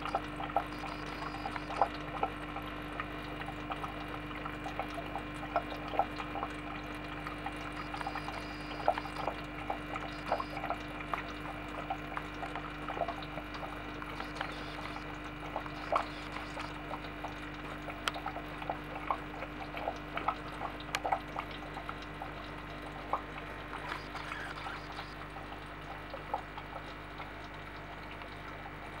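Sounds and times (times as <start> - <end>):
low equipment hum: 0.0 - 29.0
water trickling and dripping: 0.0 - 29.0.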